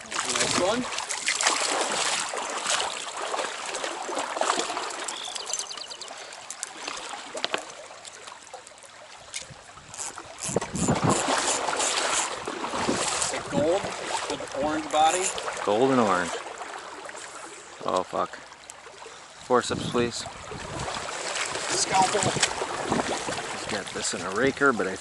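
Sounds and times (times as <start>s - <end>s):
stream water trickling: 0.0s - 25.0s.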